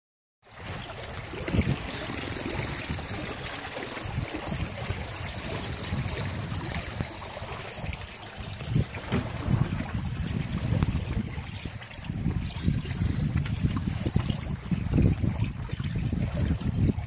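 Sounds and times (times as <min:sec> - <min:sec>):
water rushing along boat hull: 0:00.4 - 0:17.0
wind buffeting microphone: 0:00.6 - 0:17.0.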